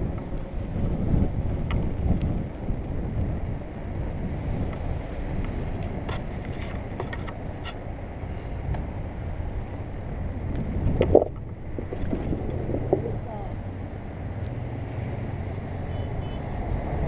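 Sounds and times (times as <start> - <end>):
wind buffeting microphone: 0.0 - 14.4
wheels rumbling on rough paving: 0.0 - 15.8.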